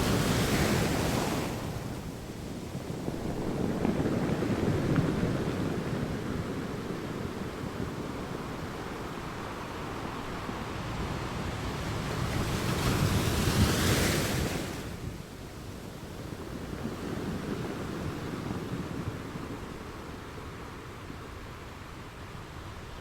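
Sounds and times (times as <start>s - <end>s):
sea waves washing onto beach: 0.0s - 23.0s.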